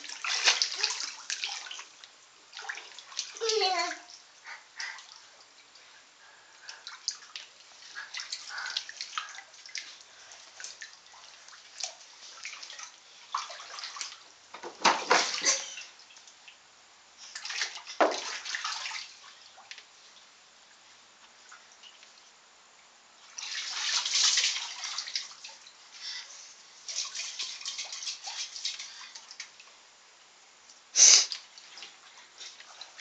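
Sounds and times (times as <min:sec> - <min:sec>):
water sloshing and splashing: 0:00.0 - 0:05.9, 0:06.6 - 0:16.5, 0:17.2 - 0:19.9, 0:23.2 - 0:29.7, 0:31.3 - 0:33.0.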